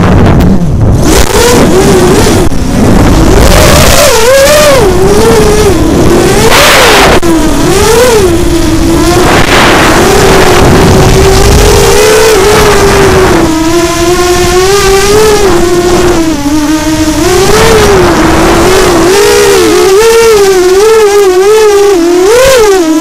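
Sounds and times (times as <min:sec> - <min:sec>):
rushing noise: 0:00.0 - 0:20.8
quadcopter motors whining: 0:00.0 - 0:23.0.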